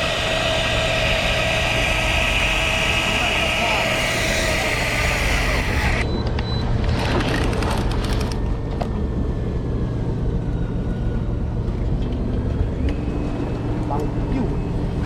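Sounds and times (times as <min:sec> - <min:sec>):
boat engine humming: 0:00.0 - 0:06.1, 0:08.3 - 0:15.0.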